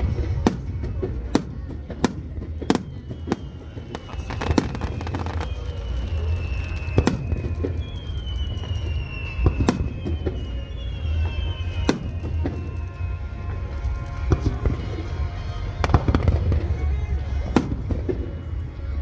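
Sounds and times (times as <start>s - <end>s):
fireworks bangs: 0.0s - 18.6s.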